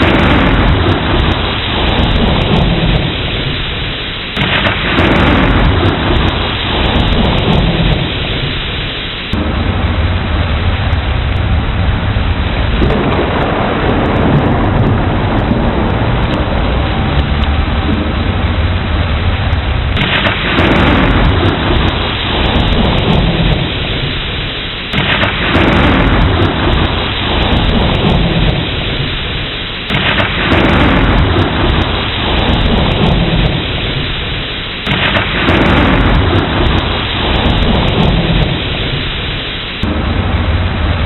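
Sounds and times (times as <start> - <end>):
steady rain: 0.0 - 41.0
thunder claps: 0.0 - 41.0.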